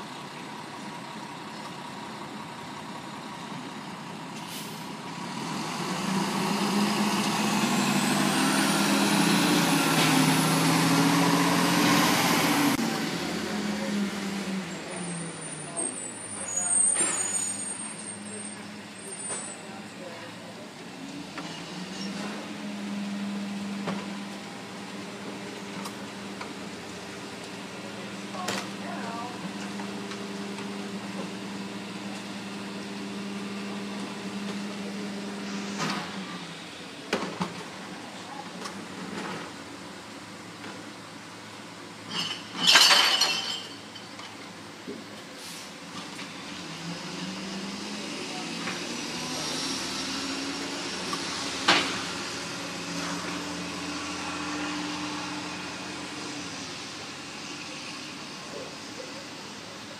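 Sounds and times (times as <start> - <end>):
distant garbage truck engine: 0.0 - 59.9.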